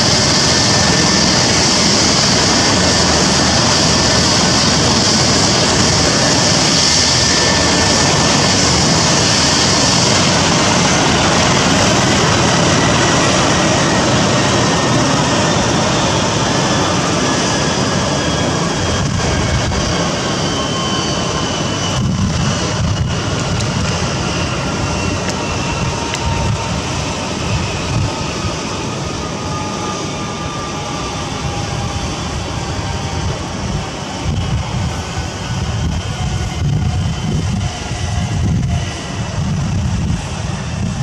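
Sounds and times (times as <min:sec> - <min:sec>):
helicopter turbine and rotor noise: 0:00.0 - 0:41.0
high turbine whine: 0:00.0 - 0:41.0.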